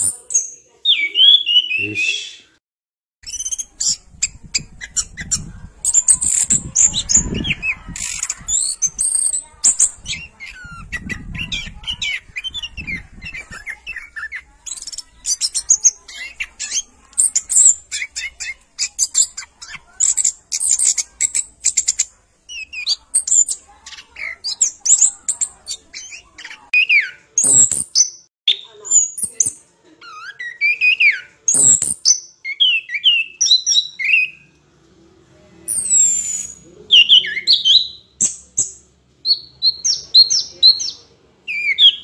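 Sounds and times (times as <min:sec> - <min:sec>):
bird chirping and twittering: 0:00.0 - 0:02.4, 0:03.2 - 0:34.5, 0:35.7 - 0:42.0.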